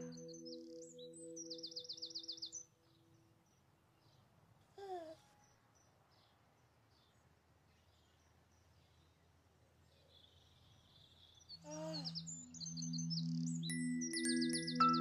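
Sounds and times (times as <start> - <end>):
faint birdsong chirping: 0.0 - 15.0.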